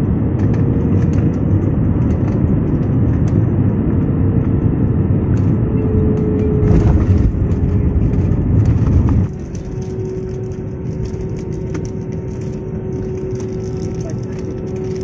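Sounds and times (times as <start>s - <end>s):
jet engine and air roar: 0.0s - 15.0s.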